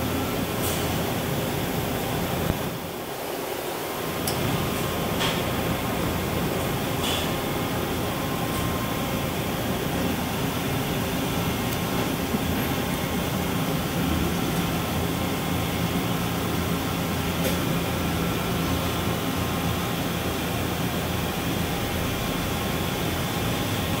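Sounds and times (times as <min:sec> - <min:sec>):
machinery and ventilation hum: 0:00.0 - 0:24.0.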